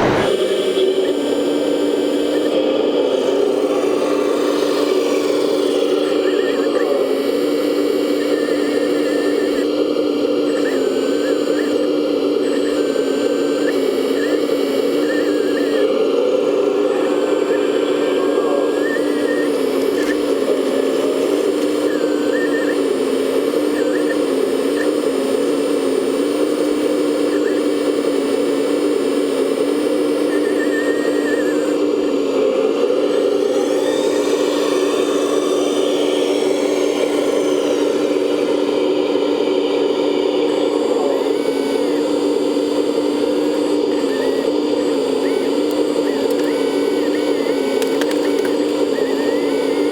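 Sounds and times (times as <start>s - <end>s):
electric motor hum: 0.0s - 49.9s
high-pitched hydraulic whine: 0.0s - 49.9s.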